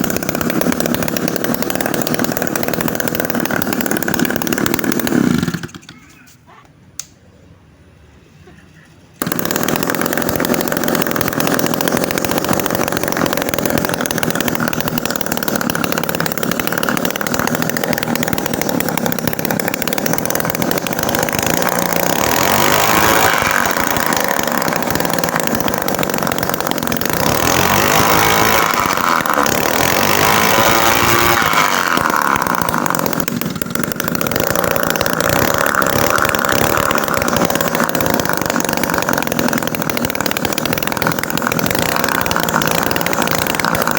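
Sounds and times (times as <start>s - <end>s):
small two-stroke engine running: 0.0s - 6.2s, 9.2s - 43.9s.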